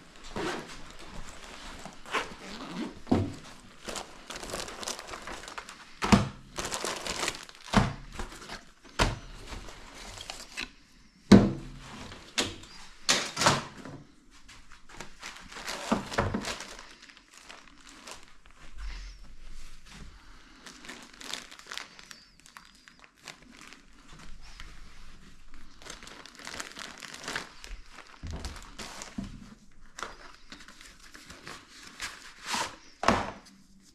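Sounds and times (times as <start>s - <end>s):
rustling and crinkling: 0.0s - 33.9s.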